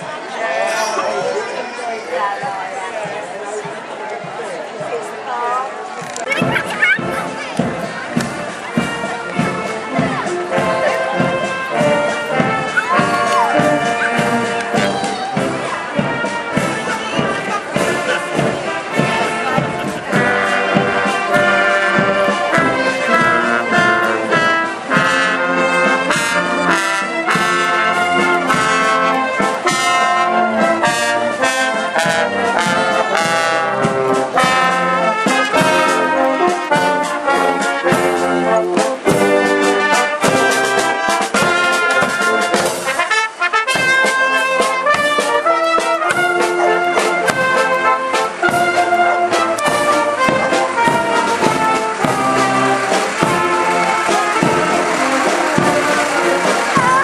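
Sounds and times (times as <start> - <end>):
marching brass band playing: 0.0 - 57.0.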